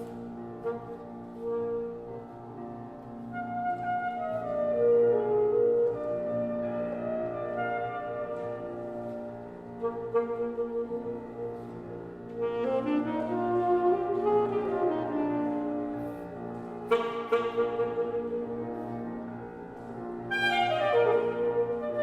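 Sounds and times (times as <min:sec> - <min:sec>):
alto saxophone: 0:00.0 - 0:22.0
piano: 0:00.0 - 0:22.0.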